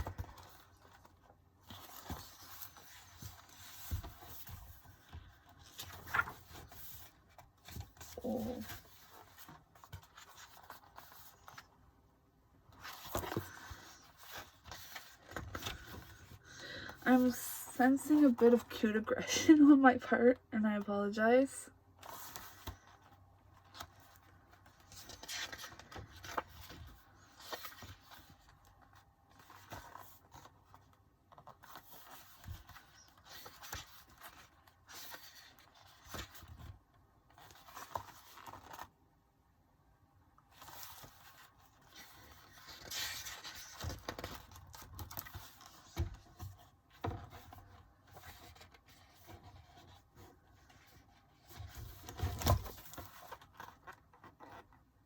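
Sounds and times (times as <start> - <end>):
paper pages rustling: 0.0 - 11.8, 12.7 - 17.4, 22.0 - 39.0, 40.5 - 54.9.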